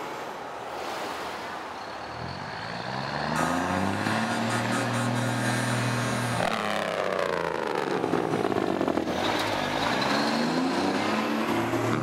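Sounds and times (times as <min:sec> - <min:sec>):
diesel truck engine passing: 0:01.8 - 0:12.0.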